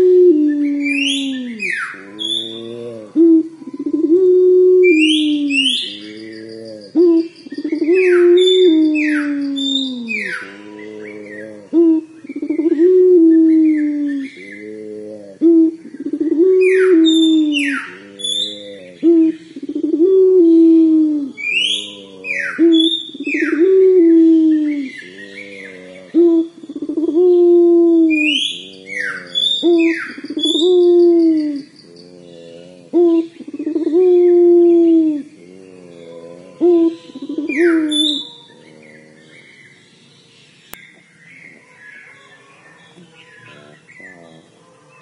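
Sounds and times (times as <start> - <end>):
dove cooing: 0.0 - 39.6, 43.0 - 45.0
bird chirps: 4.9 - 14.7, 15.7 - 20.0, 21.3 - 27.2, 28.0 - 45.0.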